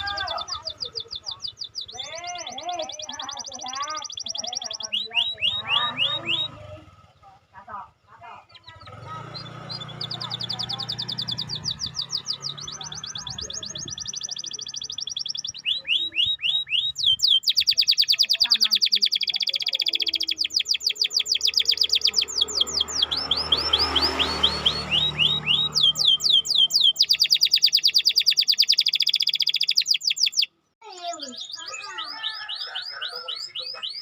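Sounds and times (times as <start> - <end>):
canary singing: 0.0 - 34.0
jumbled bird chirping: 0.0 - 34.0.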